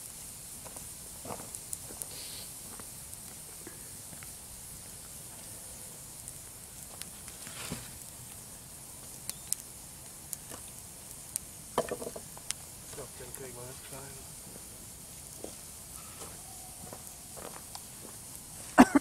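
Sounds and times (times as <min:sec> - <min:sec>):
campfire crackling and popping: 0:00.0 - 0:19.0
faint steady hiss: 0:00.0 - 0:19.0.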